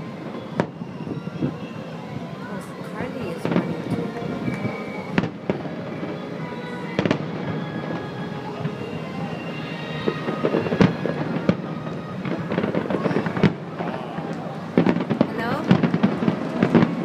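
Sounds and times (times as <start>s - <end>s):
fireworks bursts and crackle: 0.0s - 17.0s
fireworks booming: 0.1s - 17.0s.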